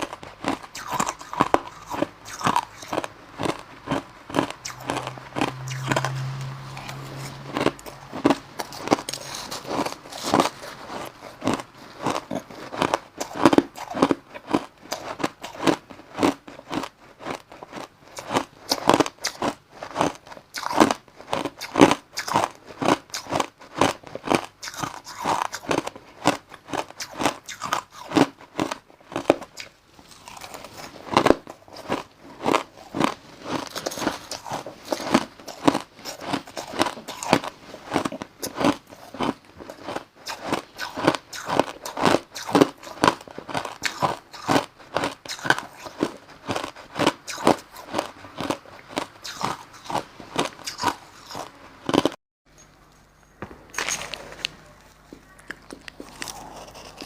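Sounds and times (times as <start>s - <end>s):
crushed ice being chewed: 0.0s - 57.0s.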